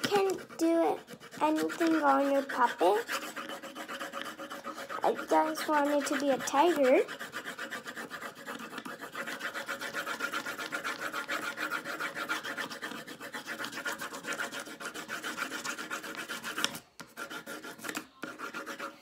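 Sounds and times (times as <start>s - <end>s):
scribbling on paper: 0.0s - 19.0s.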